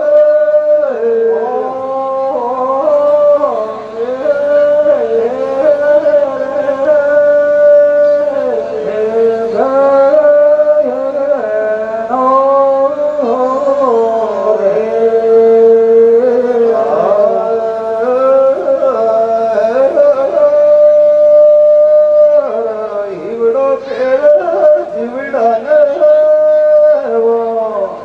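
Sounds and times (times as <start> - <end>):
folk singing with long held notes: 0.0 - 28.0.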